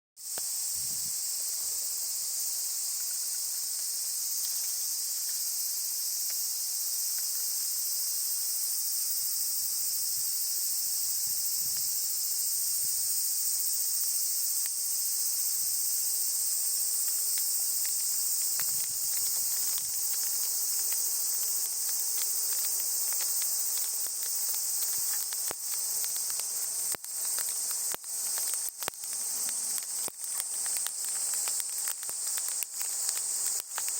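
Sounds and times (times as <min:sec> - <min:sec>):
cicadas chorus: 0:00.2 - 0:33.9
campfire crackling: 0:00.3 - 0:33.9.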